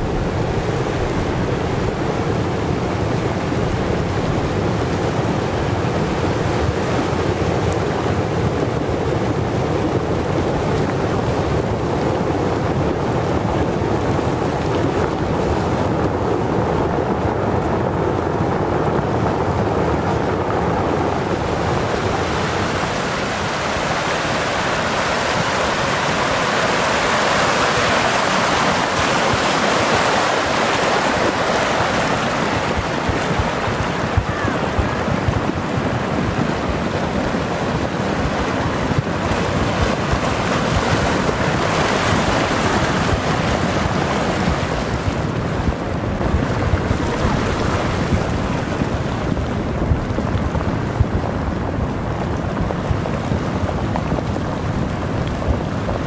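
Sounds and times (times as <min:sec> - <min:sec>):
flood water rushing: 0:00.0 - 0:56.0
wind buffeting microphone: 0:00.0 - 0:56.0.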